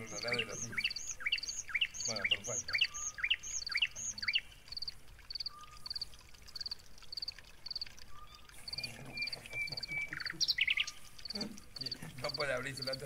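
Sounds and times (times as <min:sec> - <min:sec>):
high regular animal chirp: 0:00.0 - 0:13.0.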